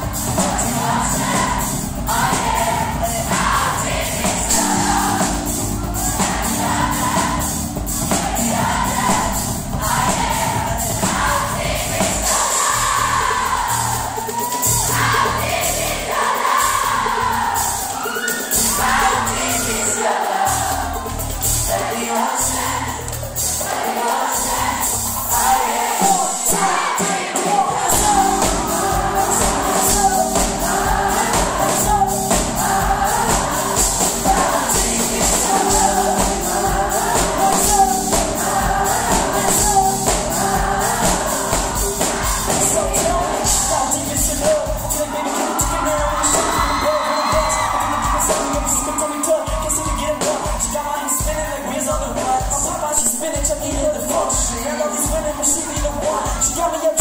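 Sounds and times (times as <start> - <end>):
live pop music with singing: 0.0 - 57.0.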